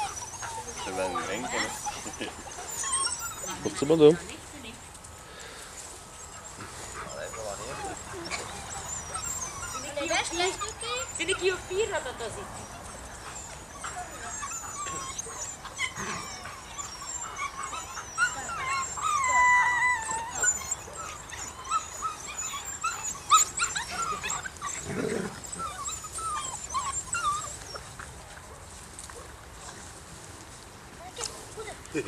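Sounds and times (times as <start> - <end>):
puppy whining: 0.0 - 4.9, 6.0 - 28.2
puppies whimpering and squealing: 0.0 - 28.3.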